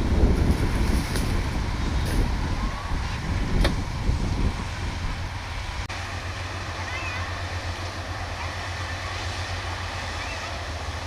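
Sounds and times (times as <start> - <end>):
combine harvester engine rumble: 0.0 - 11.0.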